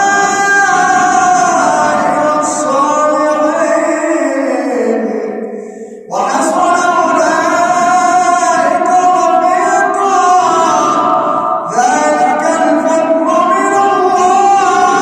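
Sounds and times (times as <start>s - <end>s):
man chanting melodic recitation: 0.0s - 5.4s, 6.0s - 15.0s.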